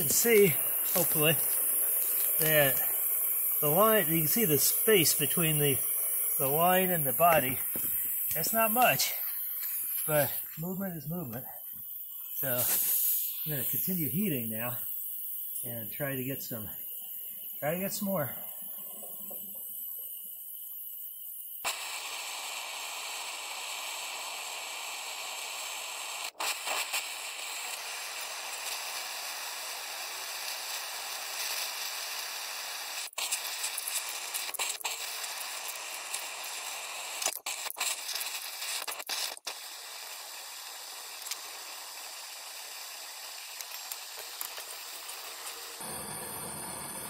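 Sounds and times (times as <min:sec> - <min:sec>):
gas torches hissing: 0:00.0 - 0:47.0.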